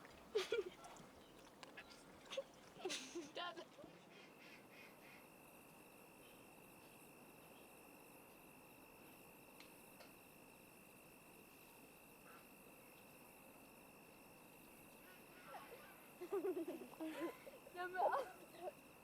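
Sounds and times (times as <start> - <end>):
faint insect trill: 0.1 - 19.0.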